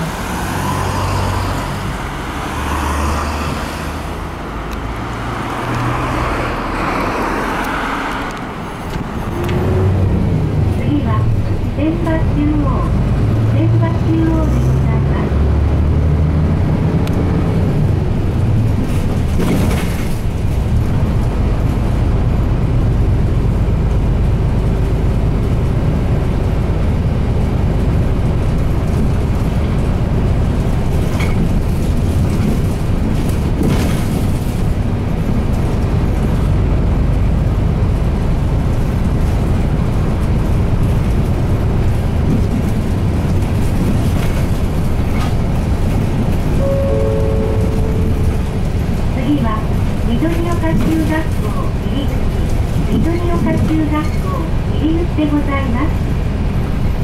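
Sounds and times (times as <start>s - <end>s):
diesel bus engine droning: 0.0s - 57.0s
road noise: 0.0s - 57.0s.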